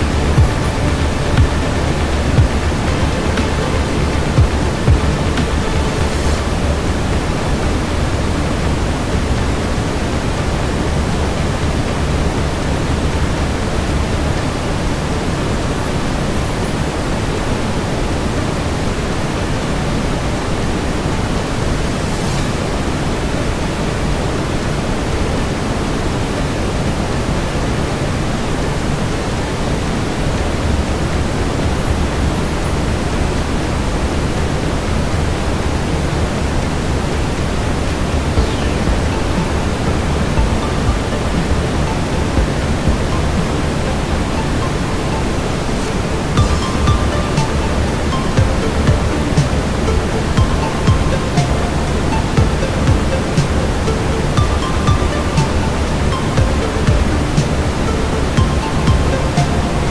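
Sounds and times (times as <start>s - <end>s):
brown noise rush: 0.0s - 59.9s.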